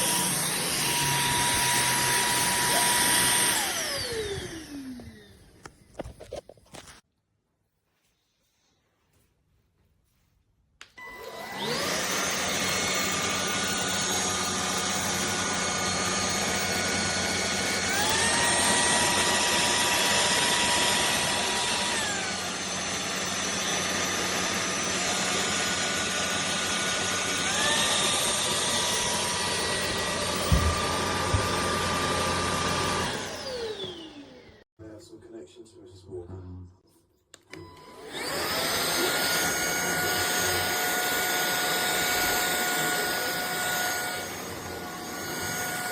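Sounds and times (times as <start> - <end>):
vacuum cleaner motor whine: 0.0 - 5.7, 11.0 - 34.7, 37.5 - 45.9.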